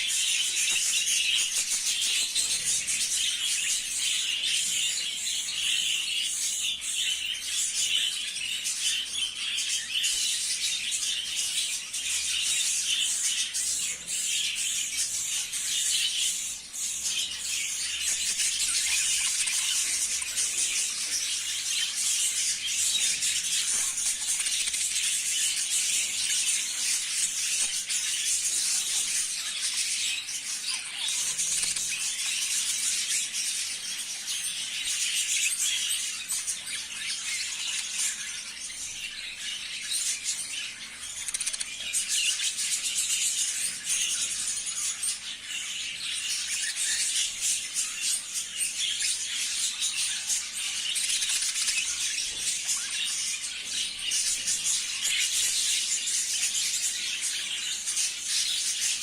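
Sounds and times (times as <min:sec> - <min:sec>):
budgerigars chattering and chirping: 0:00.0 - 0:59.0.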